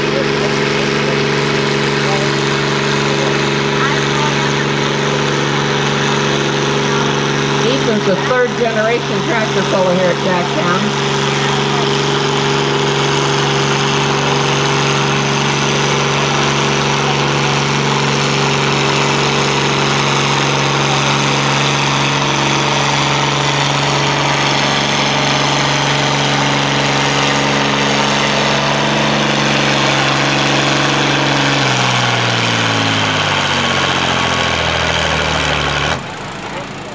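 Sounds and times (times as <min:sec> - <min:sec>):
tractor engine under load: 0:00.0 - 0:36.9.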